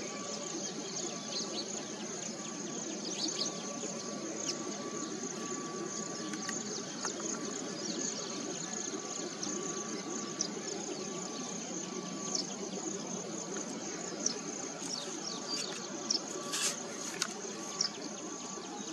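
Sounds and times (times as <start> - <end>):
high-pitched insect drone: 0.0 - 18.9.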